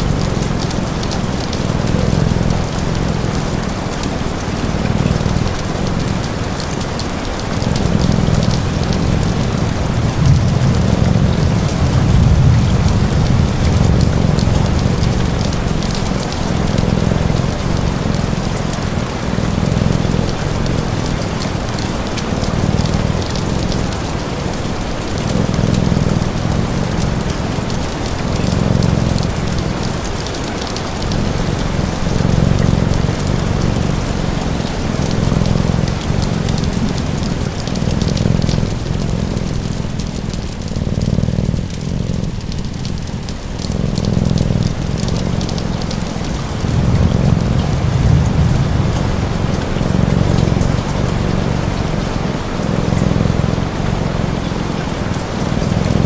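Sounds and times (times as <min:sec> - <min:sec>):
wood fire crackling: 0:00.0 - 0:50.4
cat purring: 0:00.0 - 0:56.0
steady rain: 0:00.0 - 0:56.0.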